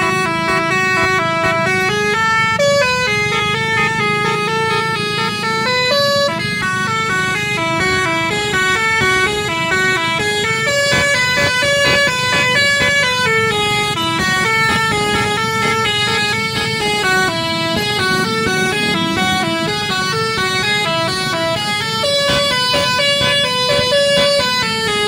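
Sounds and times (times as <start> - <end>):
multi-tone air horn melody: 0.0 - 25.0.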